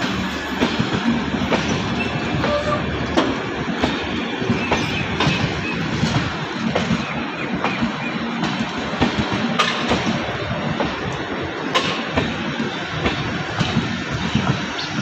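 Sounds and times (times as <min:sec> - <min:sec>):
train wheels rumbling on rail: 0:00.0 - 0:15.0
wheels clacking over rail joints: 0:00.0 - 0:15.0.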